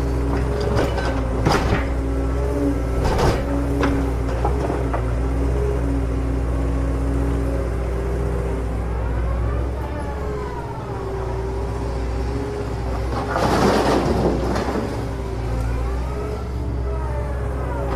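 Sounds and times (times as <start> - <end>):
engine hum with varying tones: 0.0 - 17.9.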